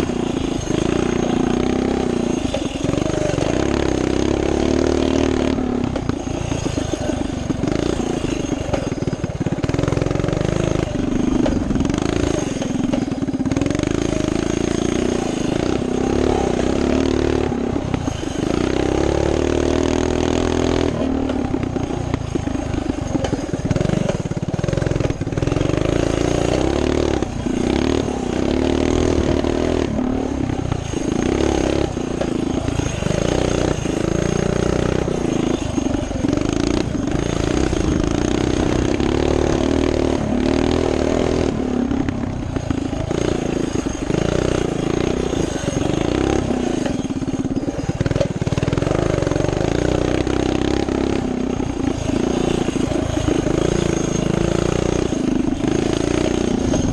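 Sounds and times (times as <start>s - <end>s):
mini bike engine revving: 0.0s - 56.9s.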